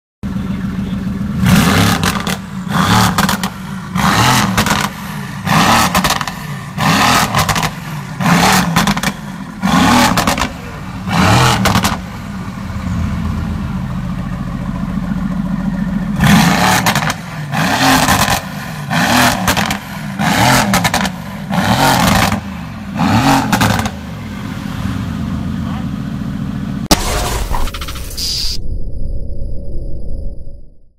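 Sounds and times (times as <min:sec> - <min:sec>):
car engine idling: 0:00.2 - 0:27.9
car engine revving: 0:00.2 - 0:28.0.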